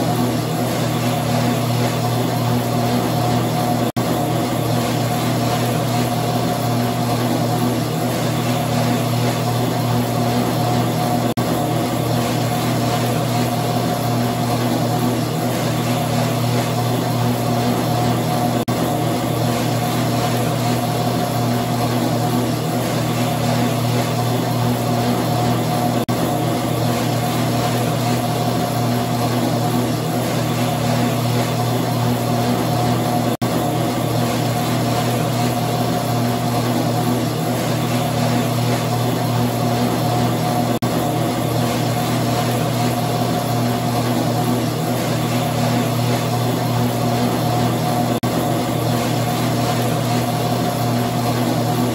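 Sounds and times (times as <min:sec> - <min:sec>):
treadmill running: 0:00.0 - 0:51.9.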